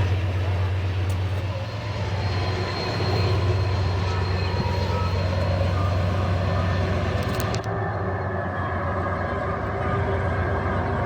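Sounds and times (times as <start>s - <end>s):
train low drone: 0.0s - 11.0s.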